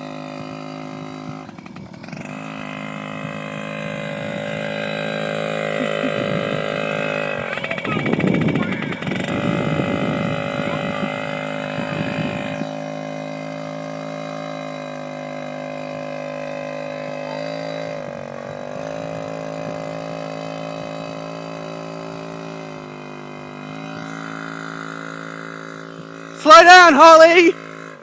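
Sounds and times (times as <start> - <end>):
small two-stroke engine running: 0.0 - 28.0.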